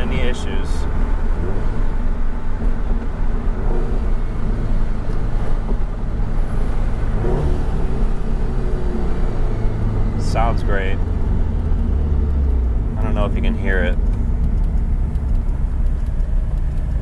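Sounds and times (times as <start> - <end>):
car engine rumbling: 0.0 - 17.0
road and wind noise: 0.0 - 17.0.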